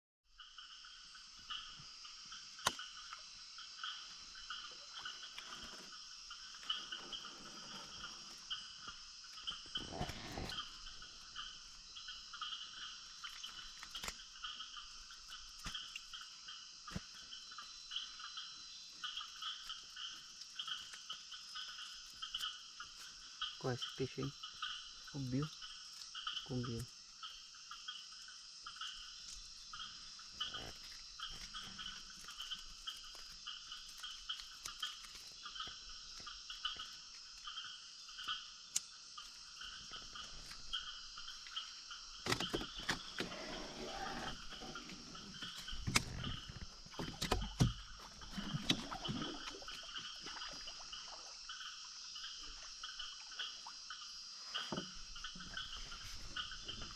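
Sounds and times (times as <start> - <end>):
frogs calling: 0.3 - 56.9
insects hissing: 0.4 - 56.9.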